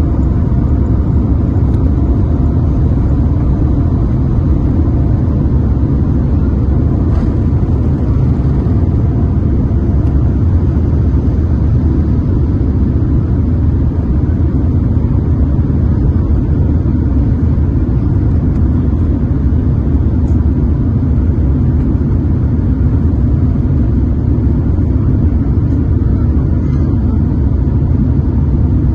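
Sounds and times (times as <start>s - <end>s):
airliner taking off: 0.0s - 28.9s.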